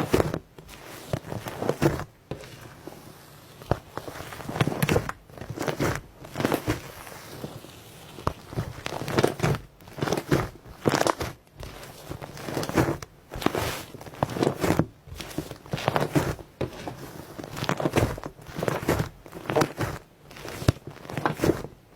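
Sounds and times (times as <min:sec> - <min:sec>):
slime crust crackling and crunching: 0:00.0 - 0:21.9.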